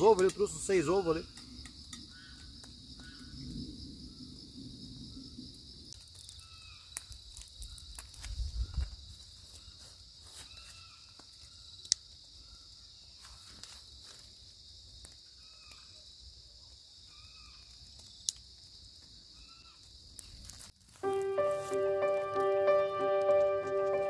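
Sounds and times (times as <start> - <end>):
crickets chirping: 0.0 - 24.0
short insect call: 0.0 - 24.0.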